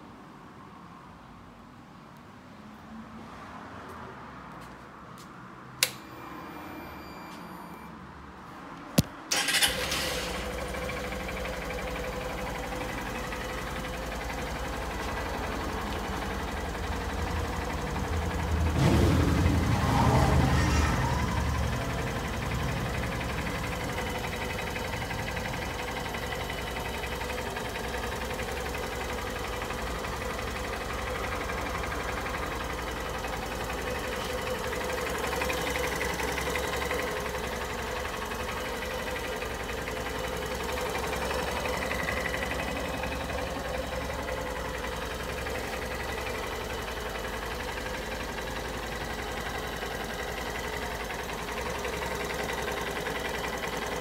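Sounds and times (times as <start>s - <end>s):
motorcycle engine idling: 9.3s - 54.0s.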